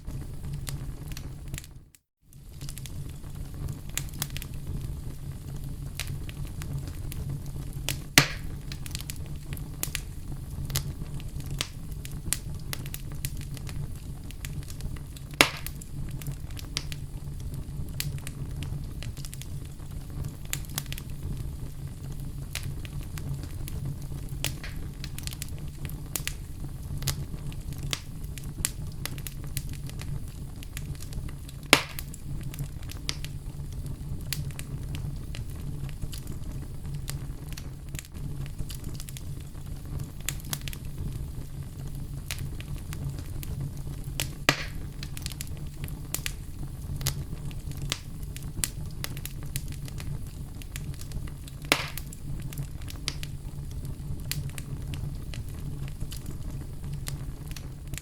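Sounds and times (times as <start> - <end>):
sharp fire pops: 0.0 - 58.0
wood fire crackling: 0.0 - 58.0.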